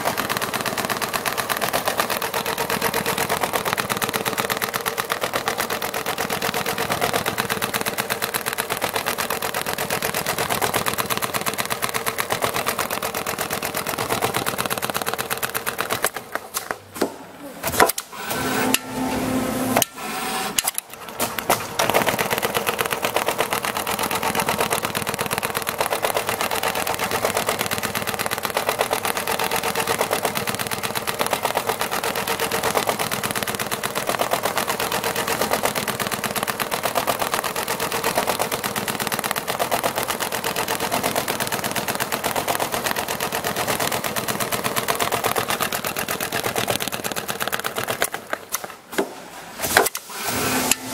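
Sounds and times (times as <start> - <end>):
sewing machine needle clatter: 0.0 - 16.6, 20.6 - 48.7.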